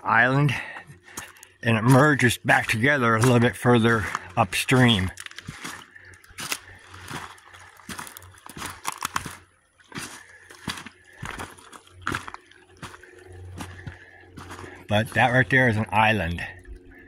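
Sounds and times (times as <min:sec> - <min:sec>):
footsteps crunching on gravel: 0:00.1 - 0:16.5.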